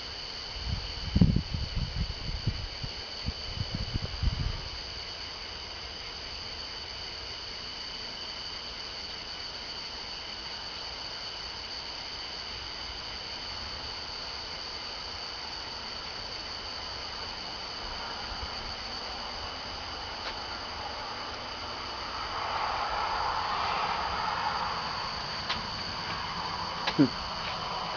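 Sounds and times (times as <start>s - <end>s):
insects chirping shrilly: 0.0s - 27.9s.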